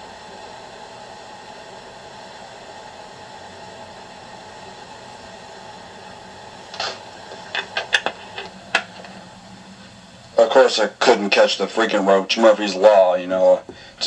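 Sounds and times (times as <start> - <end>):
faint hum: 0.0 - 14.0
steady hiss: 0.0 - 14.0.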